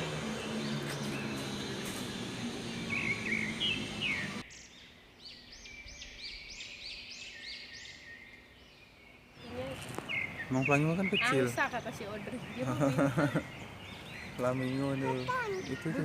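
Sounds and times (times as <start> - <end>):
bird repeating rising-falling chirp: 0.2 - 16.0.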